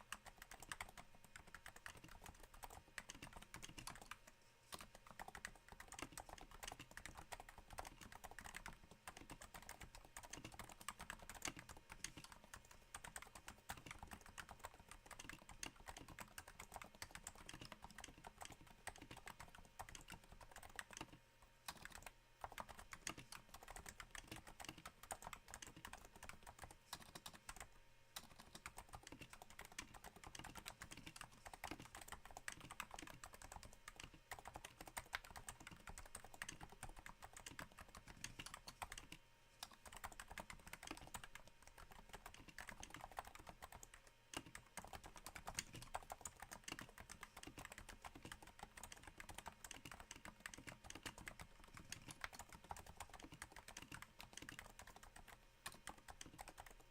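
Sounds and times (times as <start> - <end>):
keyboard typing: 0.0 - 56.9.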